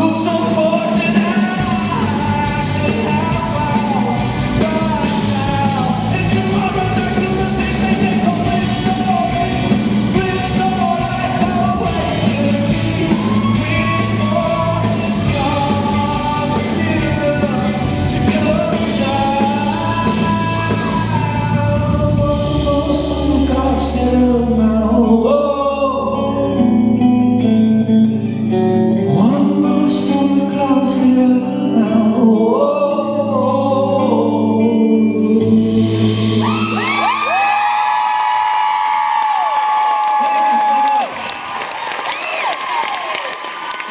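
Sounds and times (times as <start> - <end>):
steady bass line: 0.0 - 32.3, 33.1 - 37.7
person singing: 0.0 - 38.3
live pop-rock band: 0.0 - 43.9.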